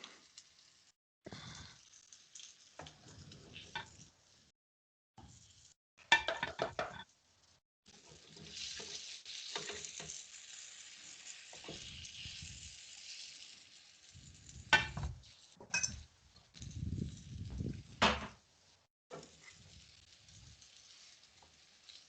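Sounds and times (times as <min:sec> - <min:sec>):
chicken frying in a pan: 0:00.0 - 0:04.6, 0:05.2 - 0:18.2, 0:19.1 - 0:22.0.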